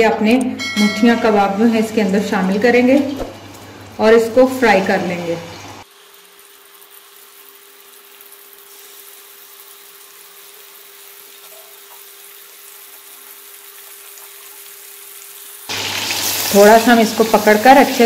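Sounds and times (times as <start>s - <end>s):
meat sizzling in oil: 2.3s - 18.0s.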